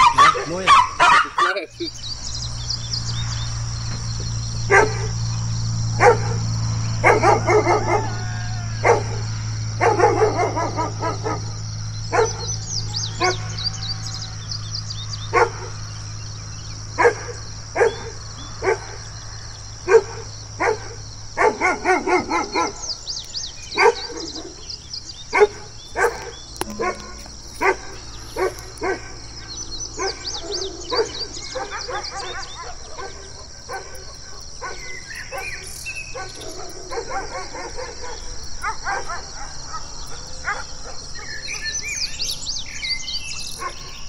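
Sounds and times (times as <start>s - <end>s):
large dog barking: 0.0s - 2.0s, 4.6s - 13.7s, 15.2s - 15.8s, 16.9s - 19.1s, 19.8s - 44.0s
birds chirping faintly: 0.0s - 8.2s, 8.8s - 44.0s
steady low hum: 0.0s - 41.3s.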